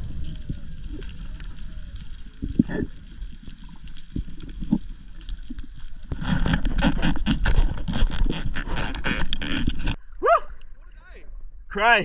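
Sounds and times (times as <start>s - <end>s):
underwater crackling and rustling: 0.0s - 11.7s.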